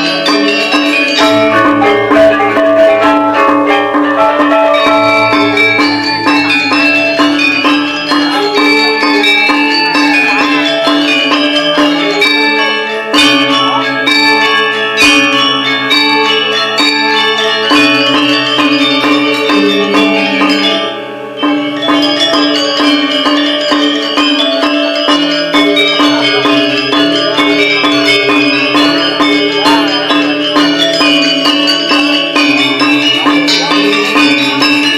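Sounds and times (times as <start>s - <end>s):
gamelan ensemble playing: 0.0s - 34.9s.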